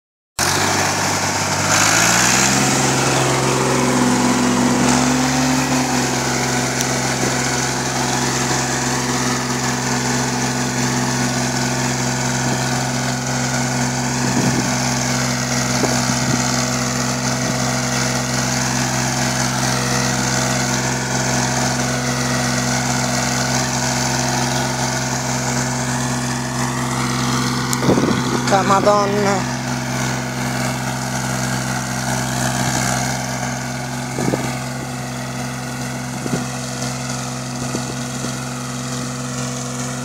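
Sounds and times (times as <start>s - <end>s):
tractor diesel engine: 0.4s - 40.0s.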